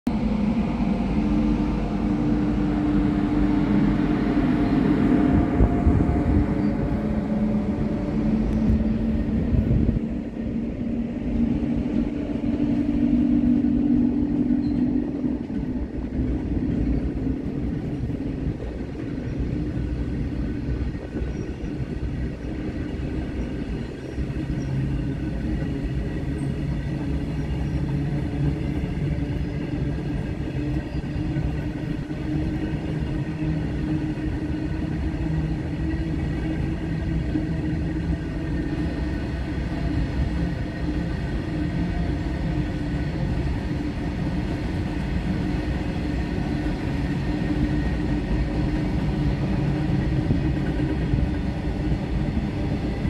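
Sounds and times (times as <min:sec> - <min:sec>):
freight train wagons rumbling: 0:00.1 - 0:53.0
locomotive hum: 0:00.1 - 0:53.0.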